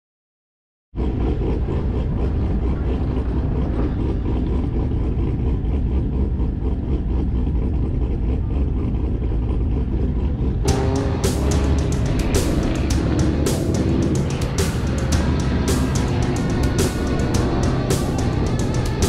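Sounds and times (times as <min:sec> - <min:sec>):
car engine and road noise: 0:00.9 - 0:19.0.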